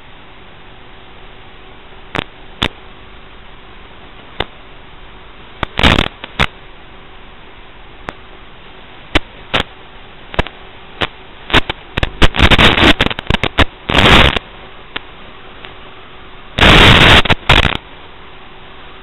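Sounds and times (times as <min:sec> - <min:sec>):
static crackles and bursts: 0:00.0 - 0:19.0
static hiss: 0:00.0 - 0:19.0.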